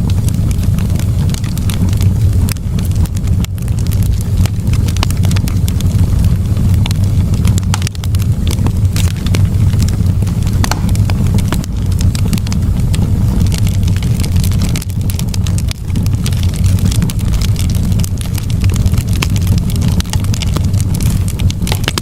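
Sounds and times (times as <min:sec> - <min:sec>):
campfire wood crackling: 0:00.0 - 0:22.0.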